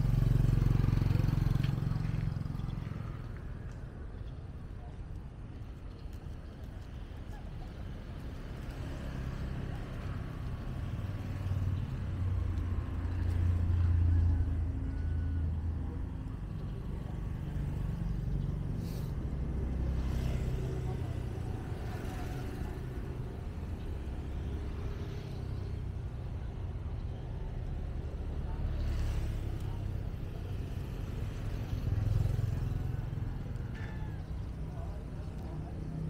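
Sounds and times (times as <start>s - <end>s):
street ambience: 0.0s - 36.0s
vehicle engine rumble: 0.0s - 36.0s.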